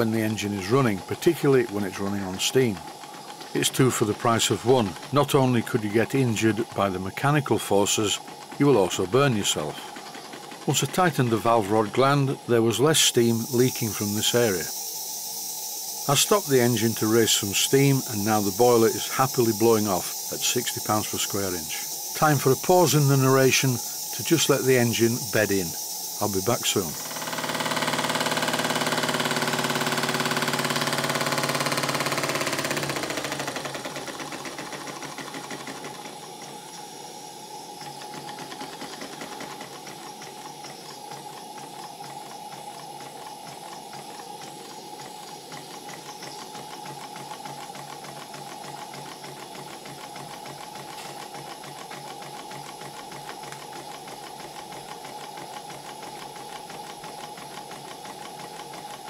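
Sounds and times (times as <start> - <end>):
crank and valve gear clatter: 0.0 - 14.9, 16.1 - 37.0, 37.7 - 59.0
model steam engine exhaust beat: 0.0 - 59.0
steam rushing hiss: 0.0 - 59.0.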